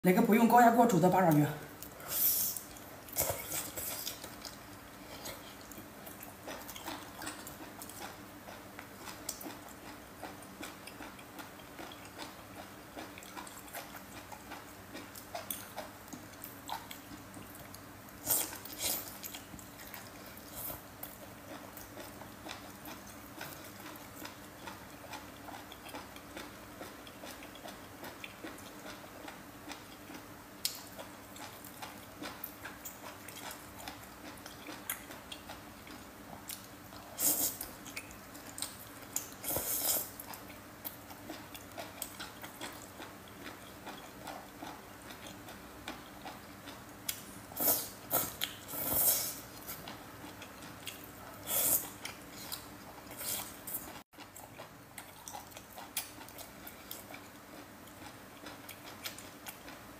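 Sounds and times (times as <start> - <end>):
wet chewing clicks and smacks: 5.4 - 39.5, 40.2 - 47.4, 49.6 - 59.8.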